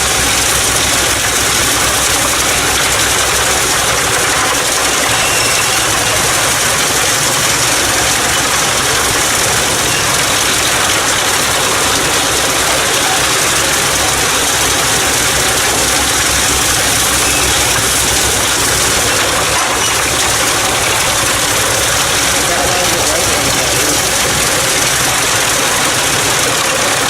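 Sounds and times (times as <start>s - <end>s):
tractor driving wood chipper: 0.0s - 27.0s.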